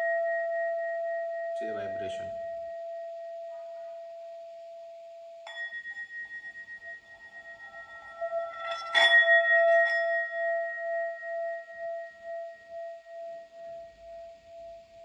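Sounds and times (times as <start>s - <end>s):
singing bowl struck and ringing: 0.0s - 14.8s.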